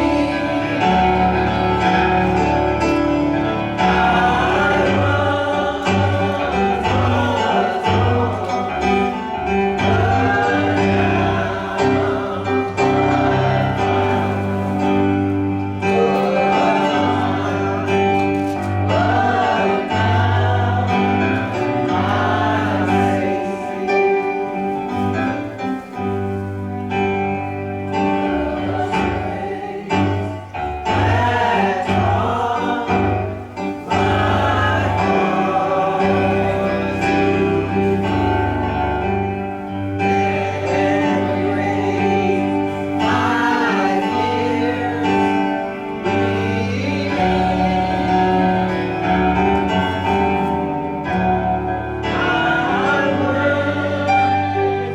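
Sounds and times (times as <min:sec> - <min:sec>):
gospel singing with accompaniment: 0:00.0 - 0:54.9.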